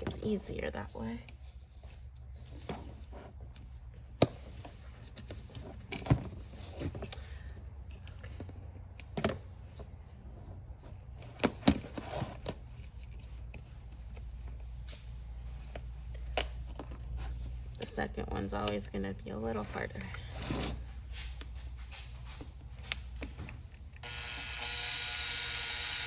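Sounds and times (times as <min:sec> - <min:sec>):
rustling and scraping of parts: 0:00.0 - 0:18.8, 0:19.4 - 0:24.0.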